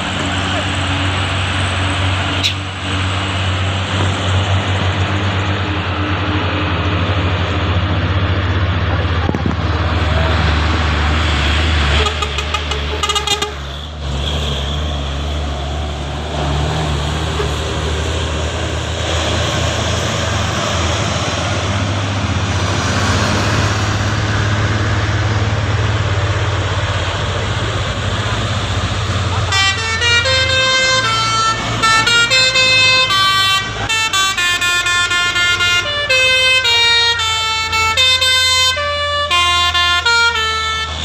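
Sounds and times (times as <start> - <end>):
road traffic noise: 0.0 - 41.0
truck engine droning: 0.0 - 41.0.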